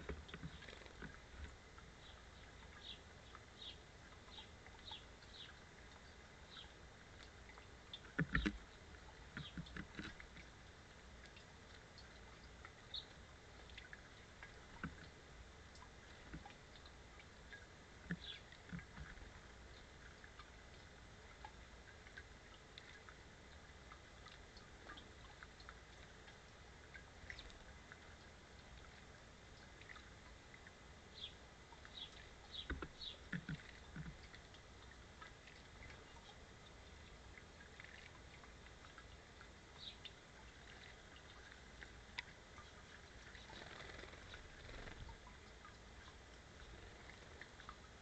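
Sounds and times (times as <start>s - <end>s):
birds splashing in bird bath: 0.0s - 48.0s.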